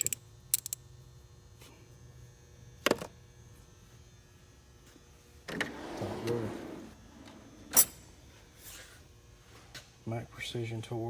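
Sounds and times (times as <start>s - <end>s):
steady low electrical hum: 0.0s - 11.0s.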